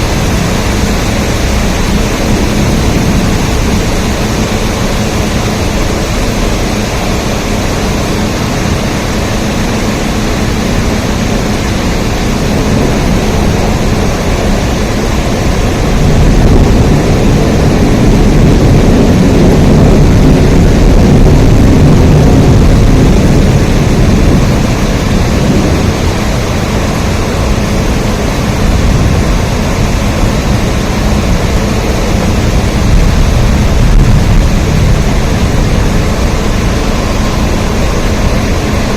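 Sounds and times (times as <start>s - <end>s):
deep rumble: 0.0s - 38.9s
steady rain: 0.0s - 38.9s.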